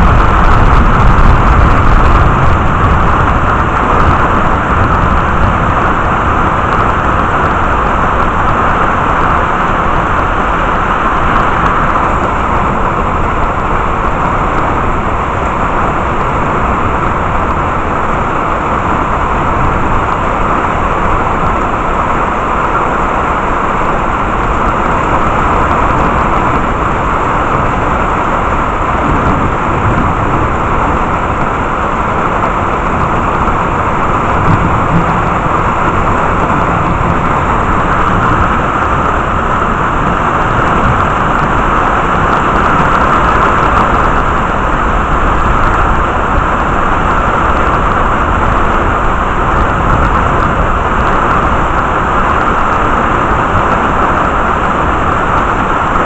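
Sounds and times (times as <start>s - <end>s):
rain downpour hissing: 0.0s - 56.0s.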